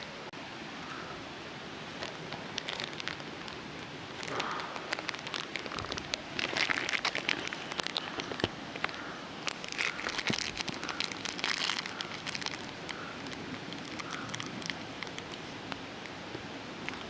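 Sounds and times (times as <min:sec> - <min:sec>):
twig fire crackling and popping: 0:01.9 - 0:17.0.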